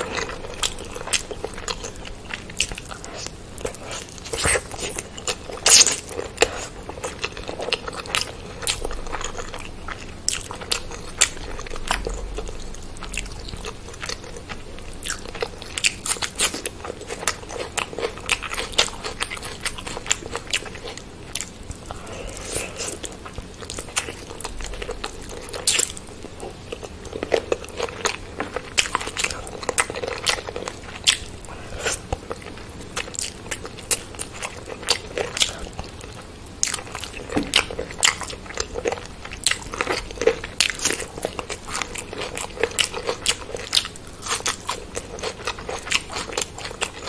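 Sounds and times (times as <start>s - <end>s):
chewing and biting: 0.0s - 47.0s.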